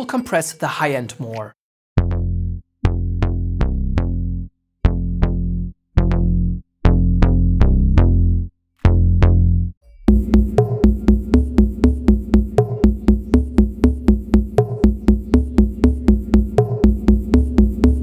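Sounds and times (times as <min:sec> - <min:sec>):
deep synth bass notes: 0:02.0 - 0:18.0.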